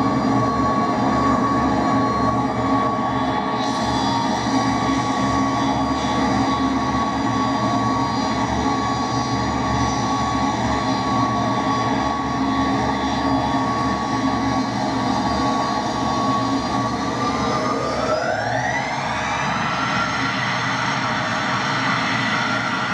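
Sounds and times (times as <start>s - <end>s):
jet engines whining: 0.0s - 22.9s.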